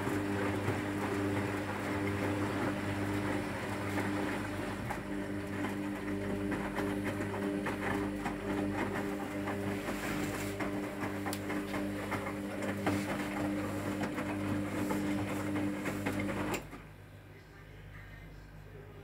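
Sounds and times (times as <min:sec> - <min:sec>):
washing machine motor hum: 0:00.0 - 0:17.8.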